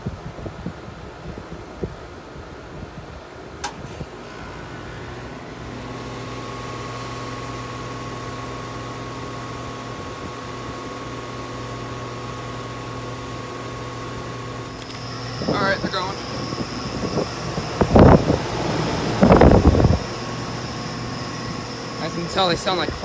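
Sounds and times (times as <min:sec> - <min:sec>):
air conditioner compressor humming: 0:03.4 - 0:23.0.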